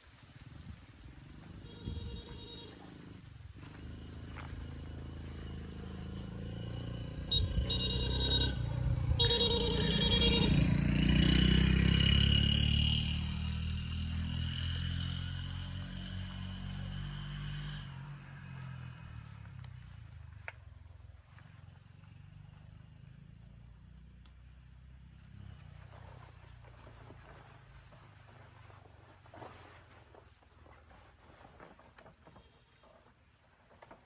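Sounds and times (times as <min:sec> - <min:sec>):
vehicle engine passing by: 0:00.4 - 0:28.8.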